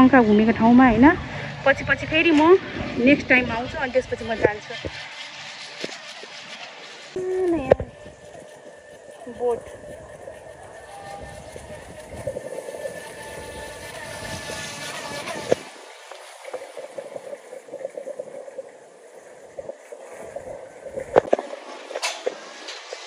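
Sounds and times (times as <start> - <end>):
boat engine rumble: 0.0 - 23.0
water noise around hull: 0.0 - 23.0.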